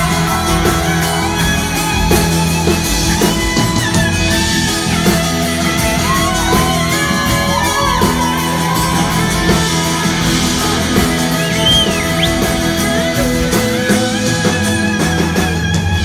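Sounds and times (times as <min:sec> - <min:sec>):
drum kit: 0:00.0 - 0:16.0
electric guitar: 0:00.0 - 0:16.0
live band playing: 0:00.0 - 0:16.0
organ: 0:00.0 - 0:16.0.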